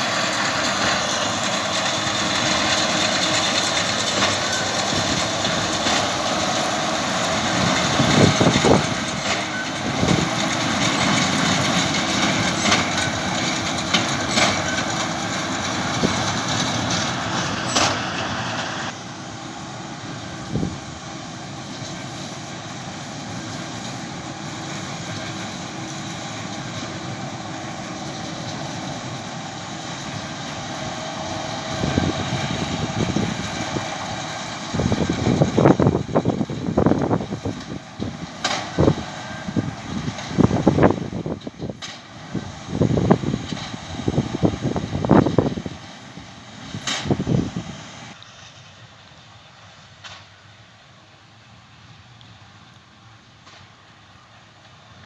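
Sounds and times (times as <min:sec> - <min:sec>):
baler machinery: 0:00.0 - 0:55.0
tractor engine running: 0:00.0 - 0:55.0.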